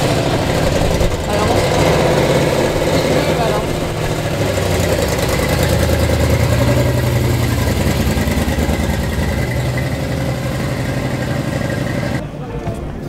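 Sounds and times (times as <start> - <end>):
car engine at low revs: 0.0 - 12.2.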